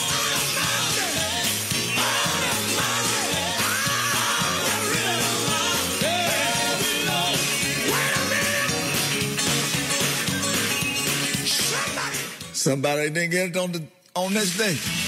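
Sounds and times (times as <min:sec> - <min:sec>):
song with singing and beat: 0:00.0 - 0:12.6.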